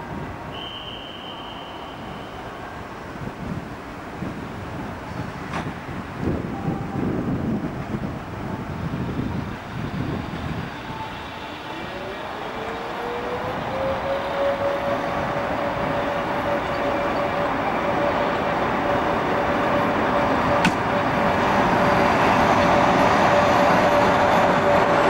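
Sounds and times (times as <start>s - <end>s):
electric locomotive whine: 0.0s - 25.0s.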